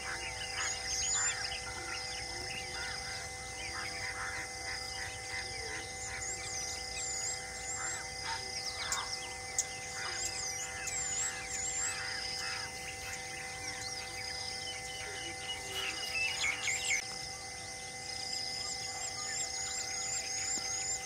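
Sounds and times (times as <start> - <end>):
birds chirping and calling: 0.0 - 21.0
insects droning: 0.0 - 21.0.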